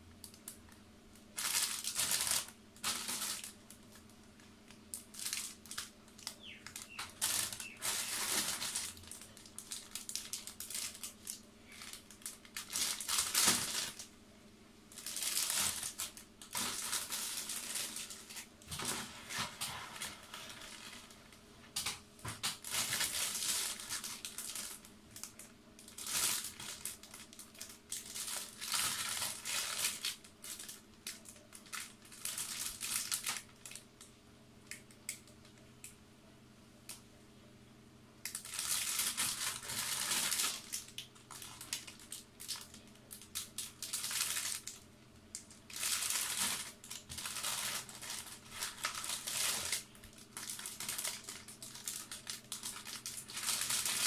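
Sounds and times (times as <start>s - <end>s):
plastic bags crinkling: 0.2s - 14.1s, 14.9s - 33.9s, 38.3s - 54.0s.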